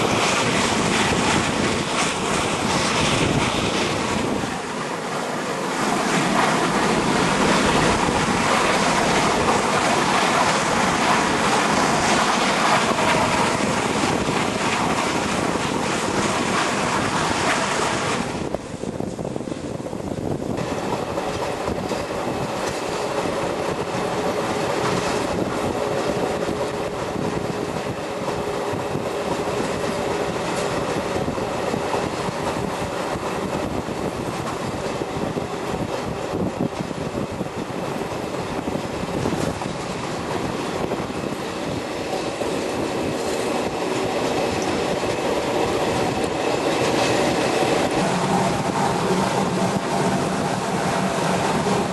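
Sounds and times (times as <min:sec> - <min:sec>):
steam train running on track: 0:00.0 - 0:51.9.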